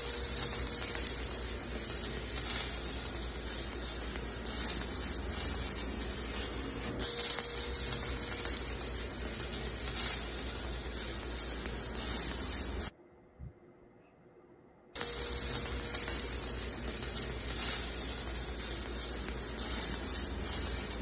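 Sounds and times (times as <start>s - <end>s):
arc welding crackle: 0.0s - 12.9s, 15.0s - 21.0s.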